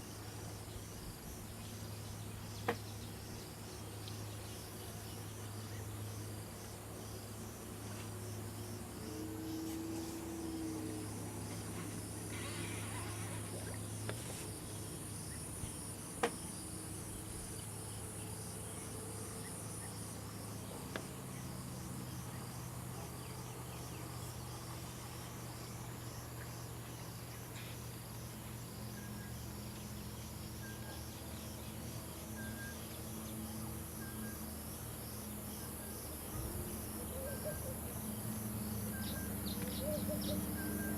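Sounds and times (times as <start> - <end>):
insects buzzing: 0.0 - 40.9
pulsing insect chirp: 0.0 - 40.9.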